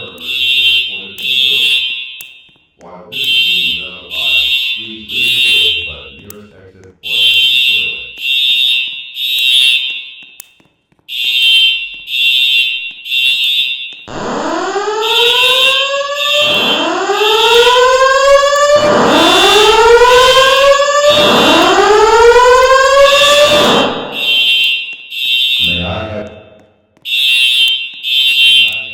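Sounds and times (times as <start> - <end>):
fire alarm high beeps: 0.0 - 6.3, 7.0 - 26.0, 27.0 - 28.9.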